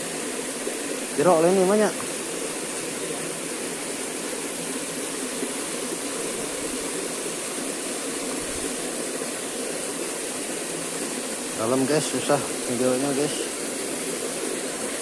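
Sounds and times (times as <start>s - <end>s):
stream water over rocks: 0.0s - 15.0s.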